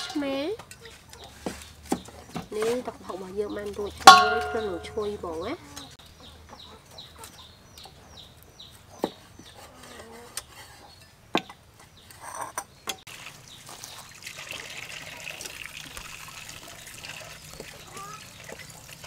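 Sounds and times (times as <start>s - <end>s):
chickens clucking: 0.0s - 11.1s, 13.3s - 19.0s.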